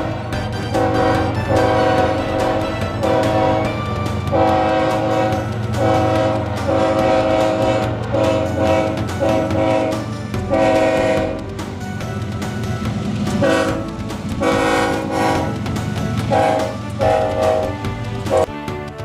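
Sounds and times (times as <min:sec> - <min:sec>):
locomotive air horn blasts: 0:00.0 - 0:11.4, 0:13.4 - 0:15.7, 0:16.3 - 0:18.5
diesel engine running: 0:00.0 - 0:18.5.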